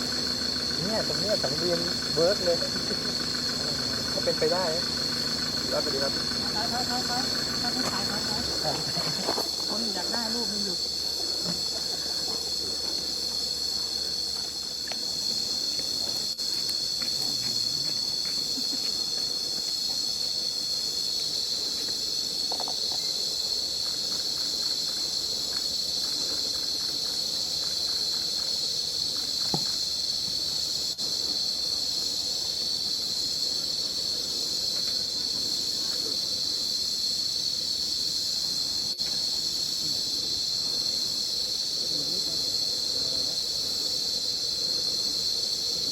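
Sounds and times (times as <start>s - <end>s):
insects shrilling: 0.0s - 45.9s.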